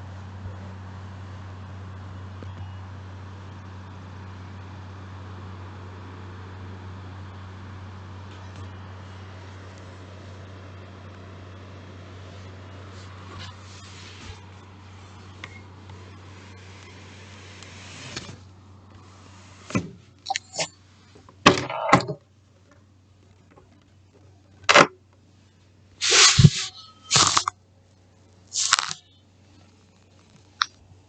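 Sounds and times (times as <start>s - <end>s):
low hum with hiss: 0.0s - 31.0s.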